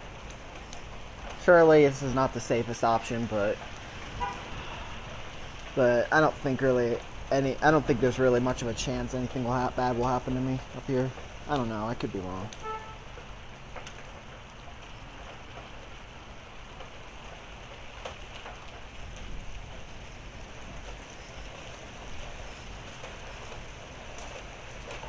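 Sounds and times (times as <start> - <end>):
hailstones ticking: 0.0 - 25.0
rain hissing: 0.0 - 25.0.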